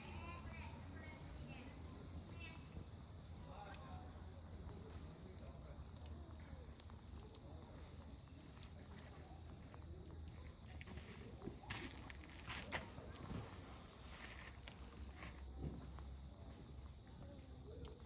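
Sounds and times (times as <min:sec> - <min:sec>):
campfire crackling and popping: 0:00.0 - 0:18.0
insects chirping in trills: 0:00.0 - 0:18.0.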